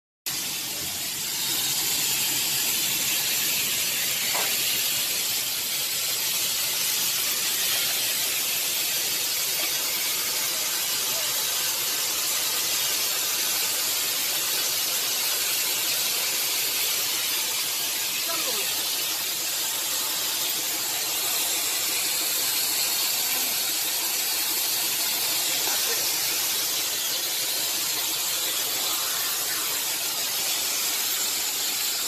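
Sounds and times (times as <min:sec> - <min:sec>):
steady high hiss: 0:00.3 - 0:32.0.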